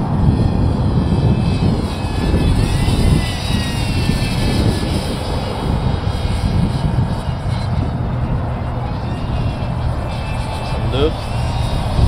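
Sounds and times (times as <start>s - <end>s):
heavy low rumble: 0.0s - 12.0s
model plane motor whine: 0.0s - 12.0s.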